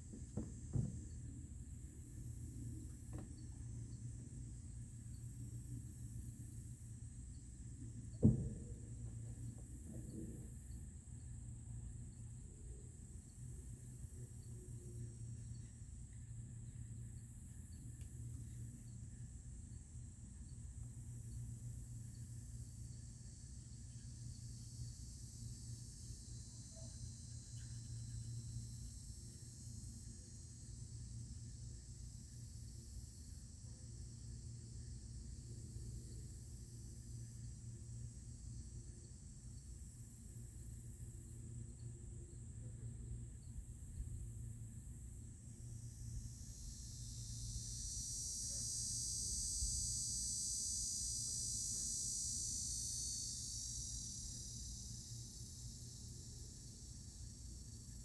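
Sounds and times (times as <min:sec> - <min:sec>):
crickets chorus: 0:00.0 - 0:58.0
insects trilling: 0:00.0 - 0:58.0
low steady hum: 0:00.0 - 0:58.0.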